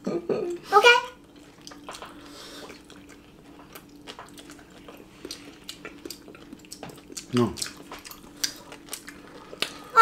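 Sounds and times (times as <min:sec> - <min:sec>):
faint steady hum: 0:00.0 - 0:10.0
people chewing: 0:01.2 - 0:10.0.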